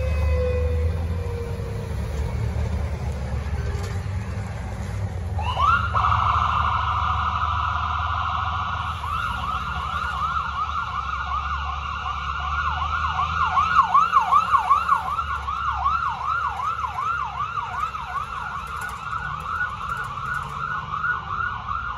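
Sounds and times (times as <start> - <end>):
ambulance siren yelp: 0.0 - 4.0, 5.3 - 21.9
vehicle engine rumble: 0.0 - 21.9.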